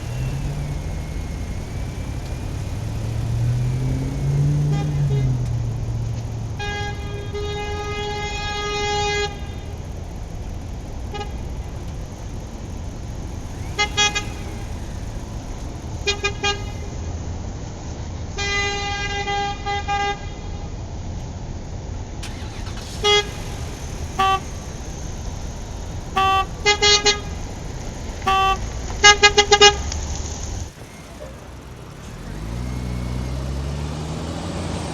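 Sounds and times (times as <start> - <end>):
horn honking: 0.0 - 17.0, 22.2 - 33.2.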